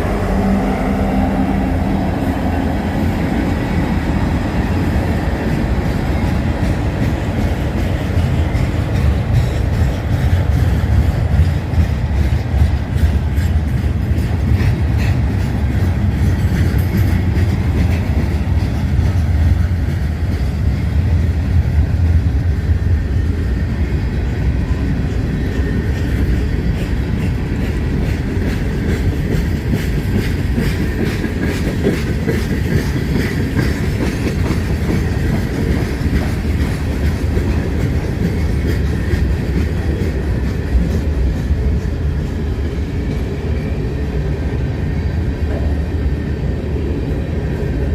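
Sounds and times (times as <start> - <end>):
train wheels clicking on rails: 0.0 - 47.9.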